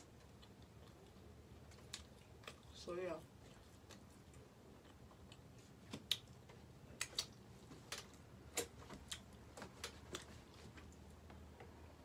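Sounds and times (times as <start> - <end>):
person chewing pizza: 0.0 - 11.3.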